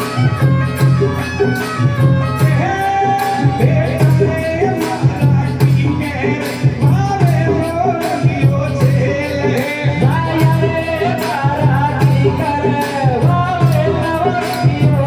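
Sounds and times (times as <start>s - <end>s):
bending folk melody: 0.0s - 15.0s
jingling hand percussion: 0.0s - 15.0s
low drum beat: 0.0s - 15.0s.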